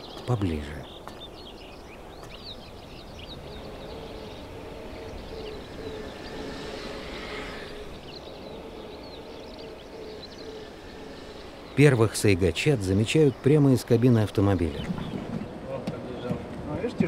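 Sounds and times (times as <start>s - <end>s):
small birds chirping: 0.0s - 16.5s.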